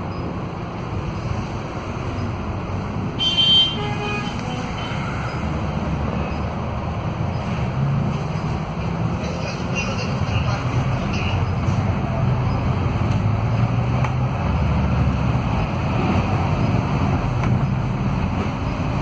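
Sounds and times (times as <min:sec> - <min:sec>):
bus diesel engine running: 0:00.0 - 0:19.0
road noise: 0:00.0 - 0:19.0.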